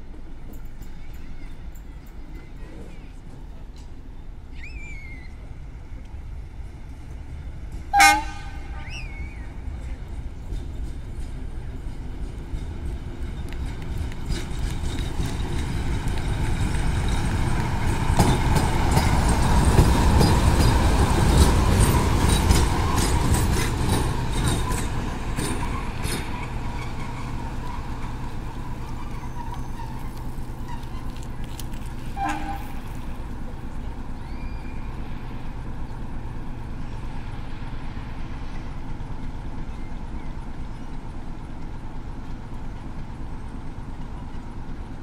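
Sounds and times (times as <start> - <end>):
diesel locomotive passing: 0.0 - 45.0
wheels clicking over rail joints: 6.8 - 37.5, 38.4 - 45.0.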